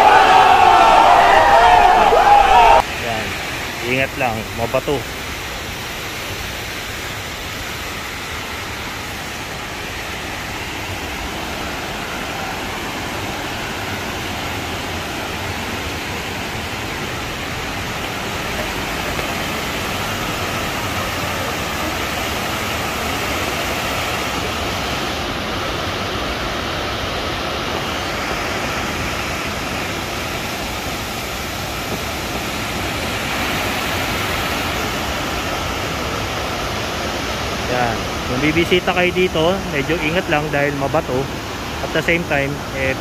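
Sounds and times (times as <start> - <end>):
water cascading onto rocks: 0.0 - 43.0.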